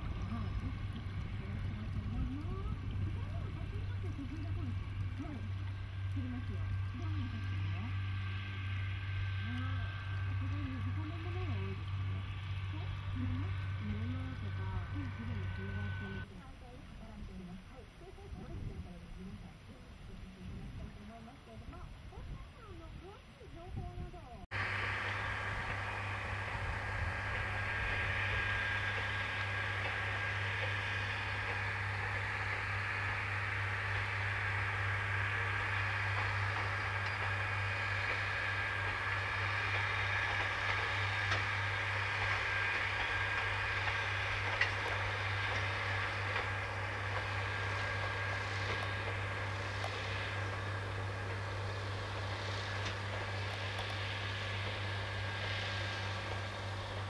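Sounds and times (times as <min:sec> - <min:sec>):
diesel train running: 0:00.0 - 0:57.0.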